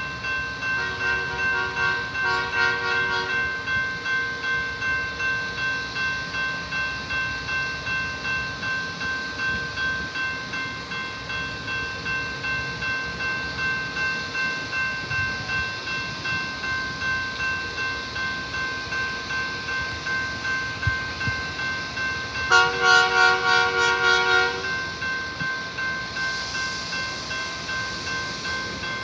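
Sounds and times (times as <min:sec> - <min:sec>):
crossing bell ringing: 0:00.0 - 0:29.0.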